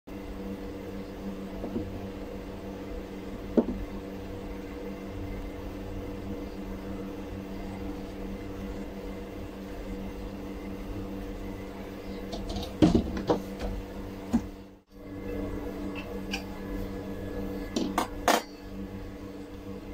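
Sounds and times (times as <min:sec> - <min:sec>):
low machine hum: 0:00.1 - 0:19.9.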